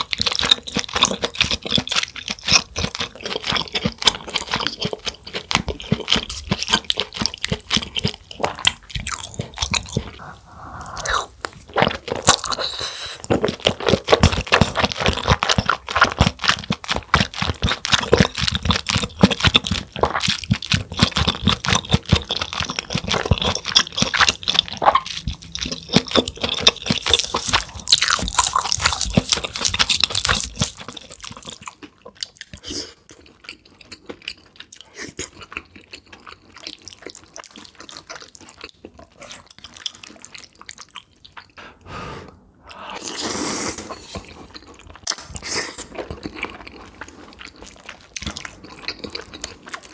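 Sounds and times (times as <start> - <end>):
chewing and crunching food: 0.0 - 41.9, 42.6 - 49.9.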